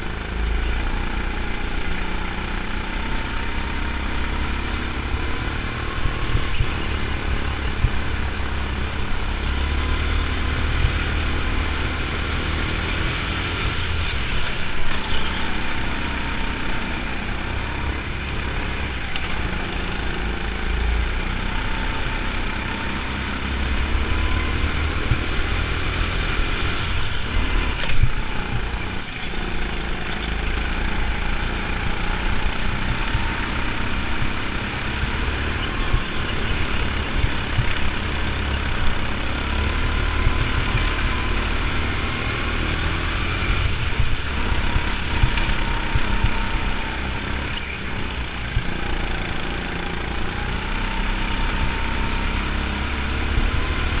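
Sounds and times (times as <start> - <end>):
go-kart engine rumble and whine: 0.0 - 54.0.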